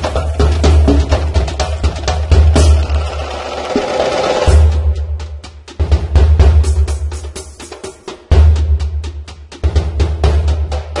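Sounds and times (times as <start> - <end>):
drum-heavy music with deep bass: 0.0 - 11.0.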